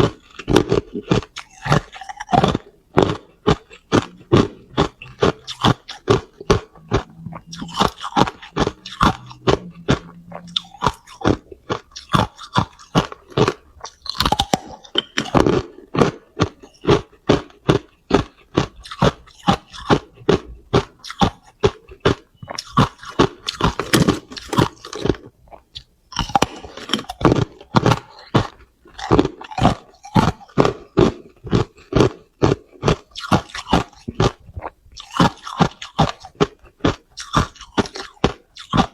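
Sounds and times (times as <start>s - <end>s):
ice crunching being chewed: 0.0s - 38.9s.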